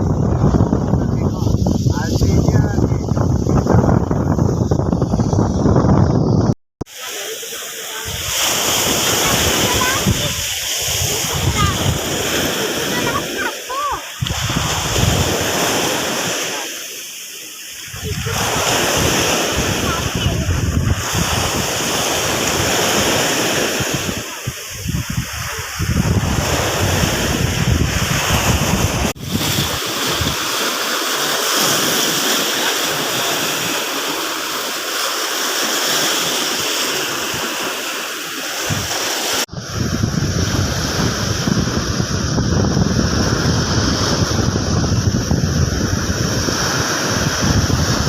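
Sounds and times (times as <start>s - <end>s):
surf washing on a beach: 0.0s - 5.8s, 6.8s - 48.0s
wind buffeting microphone: 0.0s - 6.6s, 8.0s - 16.4s, 17.8s - 34.6s, 38.6s - 48.0s.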